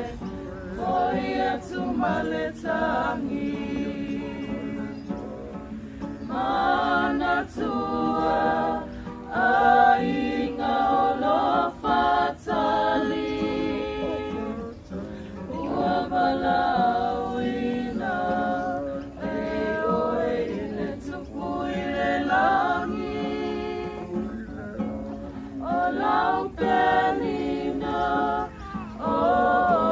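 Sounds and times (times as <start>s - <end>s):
group of voices singing: 0.0s - 29.9s.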